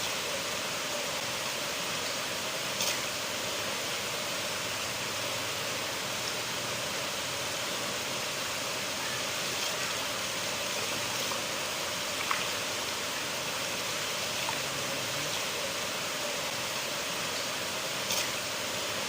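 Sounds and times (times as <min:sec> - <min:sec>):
river water flowing: 0:00.0 - 0:19.0
water splashes: 0:00.0 - 0:19.0.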